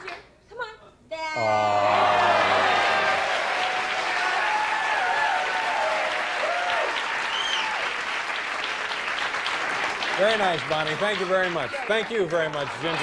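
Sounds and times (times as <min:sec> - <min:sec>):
people cheering: 0:01.4 - 0:11.8
audience applauding: 0:01.4 - 0:13.0.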